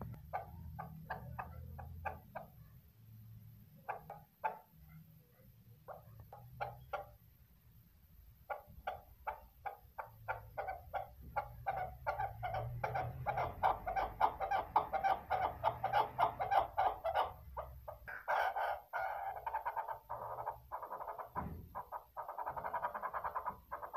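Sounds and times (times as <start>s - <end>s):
partridge clucking calls: 0.0s - 2.7s, 3.8s - 4.9s, 5.9s - 7.2s, 8.4s - 23.9s.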